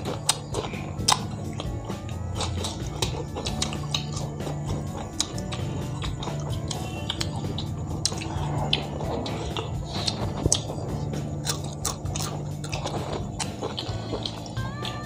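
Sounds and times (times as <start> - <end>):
people chewing and smacking: 0.0 - 15.0
soft background music: 0.0 - 15.0.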